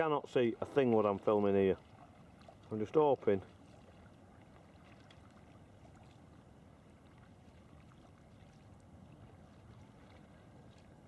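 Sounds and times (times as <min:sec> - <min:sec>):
faint water sounds: 0:00.0 - 0:11.0.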